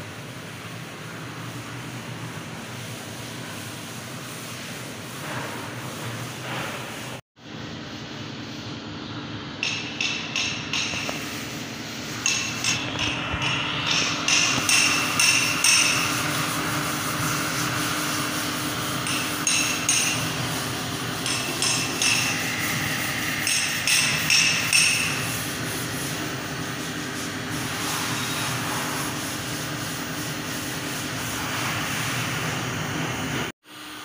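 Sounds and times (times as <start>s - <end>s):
heat gun blower whooshing hum: 0.0s - 34.0s.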